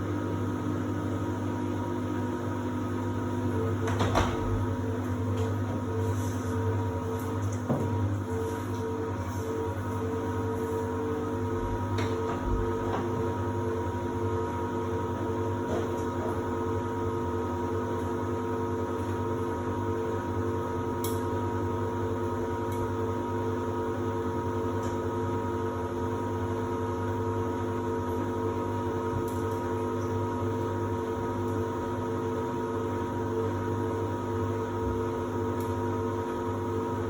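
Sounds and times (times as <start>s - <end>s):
washer-dryer humming: 0.0s - 37.0s.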